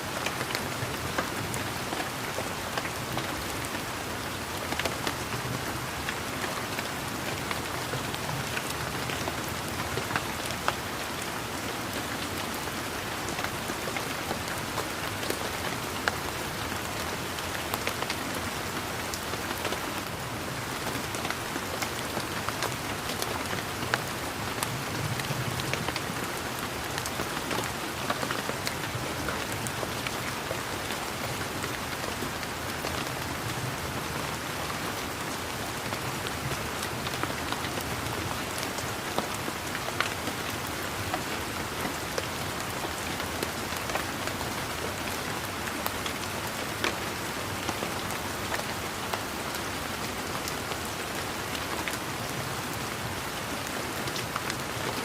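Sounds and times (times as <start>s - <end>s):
steady rain falling: 0.0s - 55.0s
raindrops ticking on surfaces: 0.1s - 55.0s.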